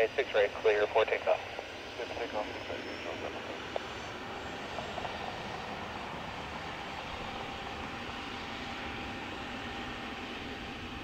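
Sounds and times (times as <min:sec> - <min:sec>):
faint steady whine: 0:00.0 - 0:11.0
jet engines at takeoff power: 0:00.0 - 0:11.0.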